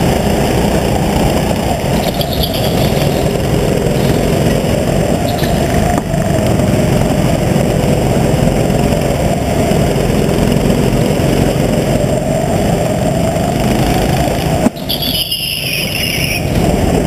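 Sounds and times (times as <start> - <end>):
go-kart engine running hard: 0.0 - 17.0.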